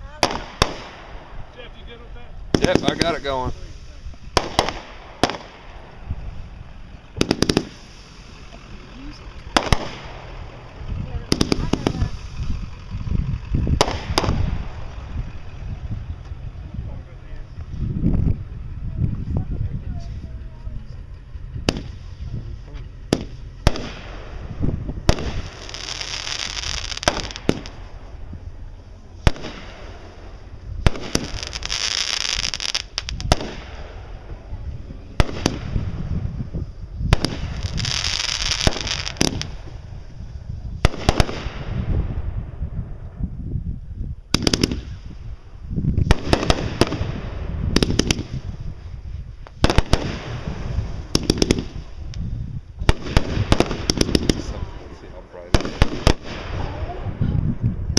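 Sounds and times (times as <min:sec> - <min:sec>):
fireworks hissing bursts: 0:00.0 - 0:18.0, 0:20.0 - 0:42.1, 0:44.3 - 0:57.1
fireworks bangs: 0:00.0 - 0:43.3, 0:44.3 - 0:57.9.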